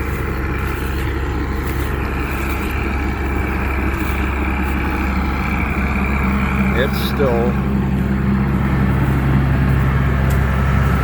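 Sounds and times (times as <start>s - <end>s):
harvester engine droning: 0.0s - 11.0s.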